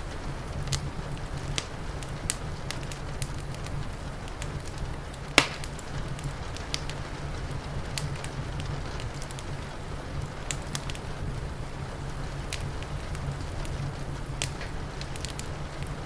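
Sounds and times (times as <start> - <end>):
fire popping: 0.0 - 16.0
wood fire crackling: 0.0 - 16.0.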